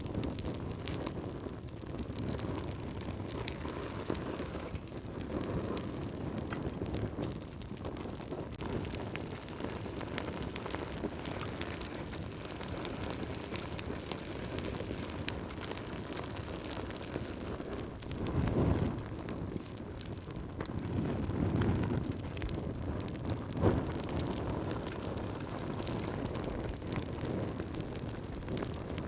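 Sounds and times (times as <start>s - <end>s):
low whoosh of flame: 0.0s - 29.0s
wood fire crackling: 0.0s - 29.0s.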